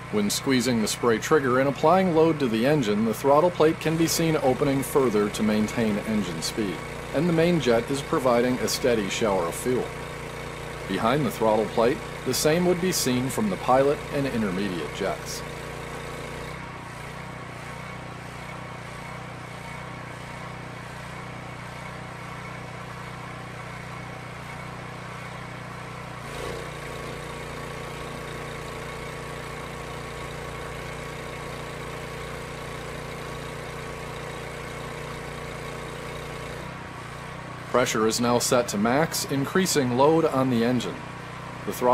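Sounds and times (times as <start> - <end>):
pressure washer engine running: 0.0 - 41.9.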